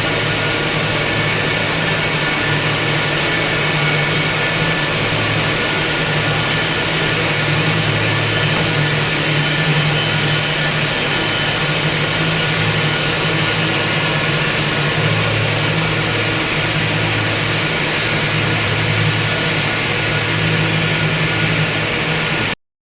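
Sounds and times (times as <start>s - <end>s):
misting system hum and hiss: 0.0s - 22.5s.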